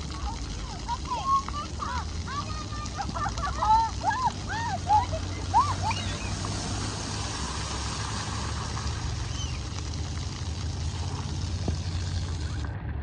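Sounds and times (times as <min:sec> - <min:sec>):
water rushing and splashing: 0:00.0 - 0:12.7.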